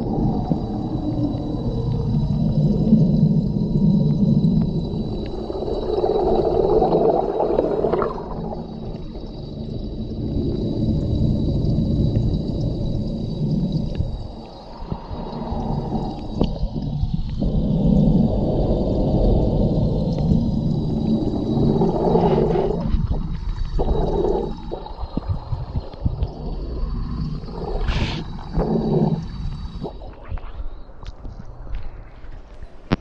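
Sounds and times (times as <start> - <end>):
aquarium water bubbles gurgling: 0.0 - 31.9.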